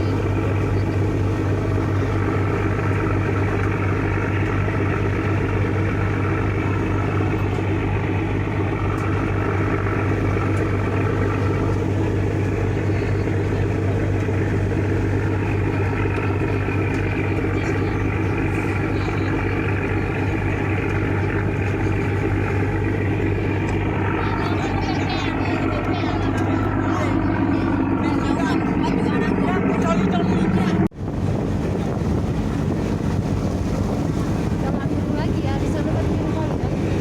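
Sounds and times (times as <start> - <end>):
ship engine droning: 0.0 - 37.0.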